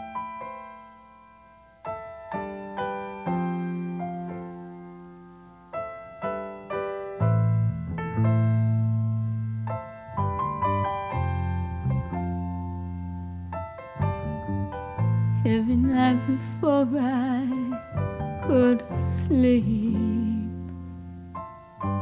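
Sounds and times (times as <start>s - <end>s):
slow solo piano music: 0.0s - 22.0s.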